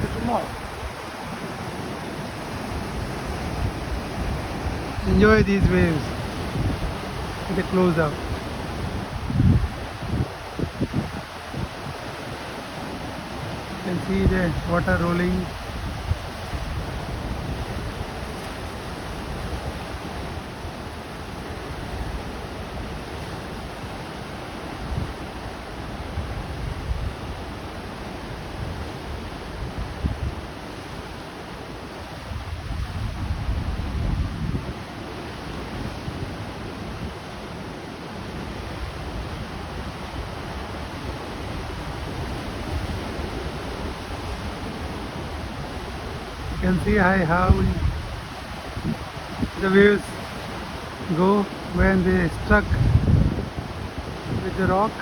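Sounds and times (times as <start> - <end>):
ocean waves washing ashore: 0.0 - 55.0
surf breaking on rocky shore: 0.0 - 55.0
wind buffeting microphone: 0.0 - 55.0.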